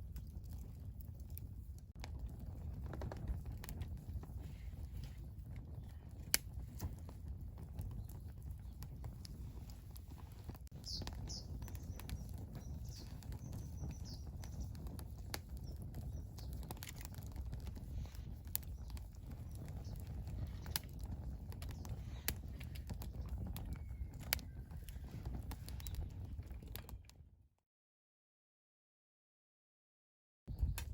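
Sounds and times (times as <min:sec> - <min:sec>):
campfire crackling and popping: 0:00.0 - 0:27.2, 0:30.5 - 0:30.9.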